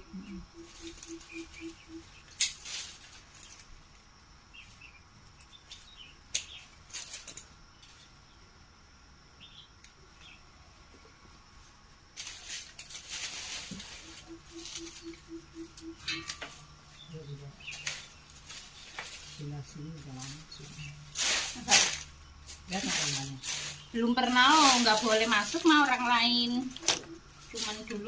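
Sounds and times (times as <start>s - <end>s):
leafy branches rustling: 0.0s - 8.3s, 11.3s - 28.0s.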